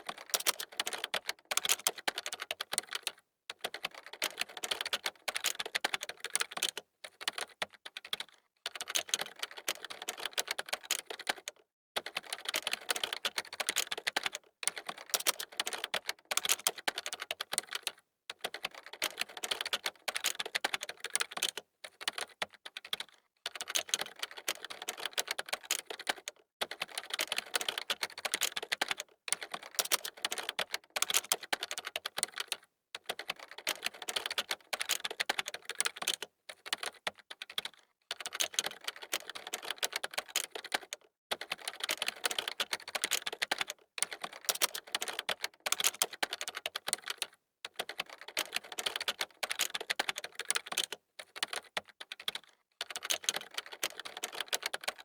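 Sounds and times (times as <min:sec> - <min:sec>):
fast typing on keyboard: 0:00.0 - 0:55.0.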